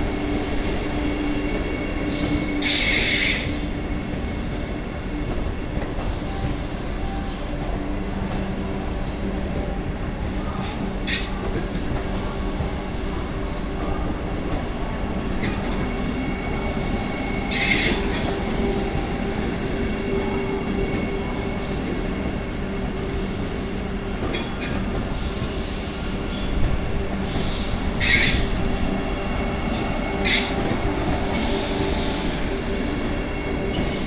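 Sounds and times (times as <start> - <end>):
high-pitched train squeals: 0.0 - 14.2, 15.2 - 34.0
electric train rolling past: 0.0 - 34.0.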